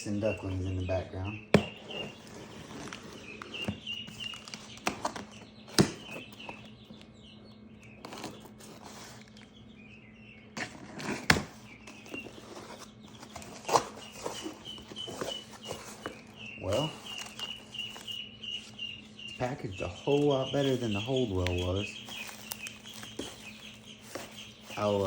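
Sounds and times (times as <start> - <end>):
chicks and ducklings peeping: 0.0 - 25.0
knocks and rustles of handling: 1.5 - 6.8, 8.0 - 9.5, 10.6 - 19.0, 20.1 - 25.0.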